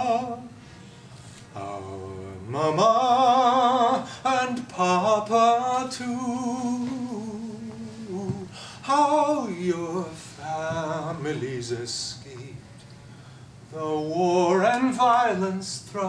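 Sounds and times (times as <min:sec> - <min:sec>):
man singing with vibrato: 0:00.0 - 0:00.7, 0:01.5 - 0:12.7, 0:13.7 - 0:16.0.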